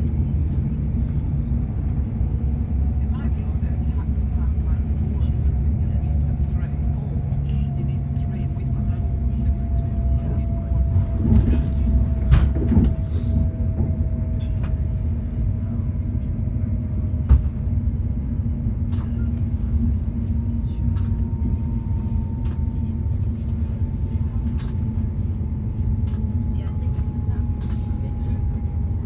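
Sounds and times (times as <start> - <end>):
train interior rumble: 0.0 - 29.0.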